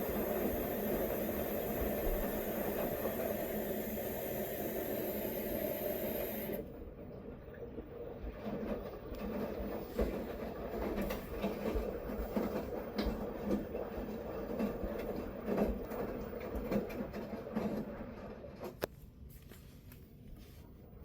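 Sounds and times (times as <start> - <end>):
washing machine sloshing rumble: 0.0 - 19.3.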